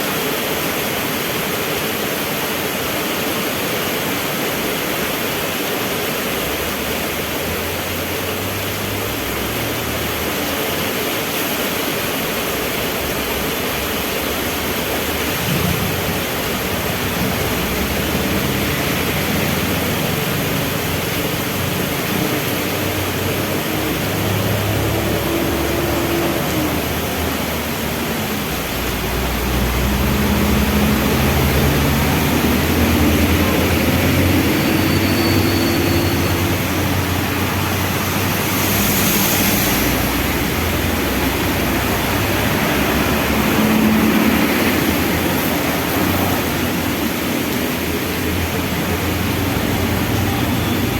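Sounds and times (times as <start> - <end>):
heavy rain falling: 0.0 - 50.9
vehicle engines humming: 2.4 - 50.9.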